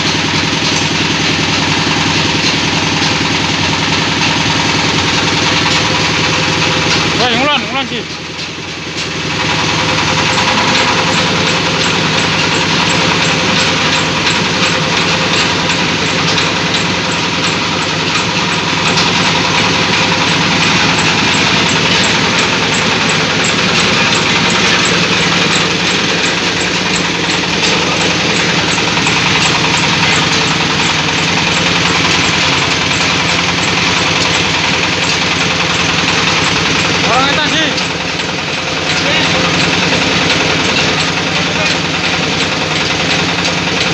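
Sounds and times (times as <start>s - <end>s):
meat grinding machine running: 0.0s - 43.9s.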